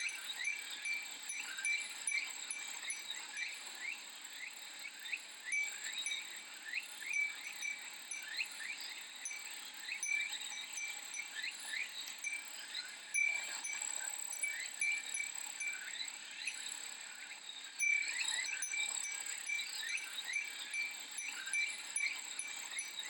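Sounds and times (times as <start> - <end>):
cicadas droning: 0.0 - 23.0.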